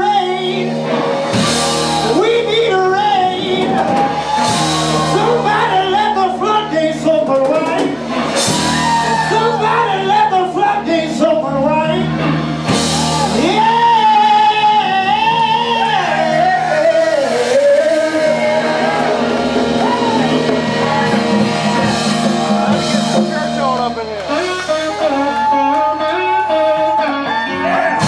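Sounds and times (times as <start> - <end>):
bending lead guitar line: 0.0 - 28.0
blues-rock band playing: 0.0 - 28.0.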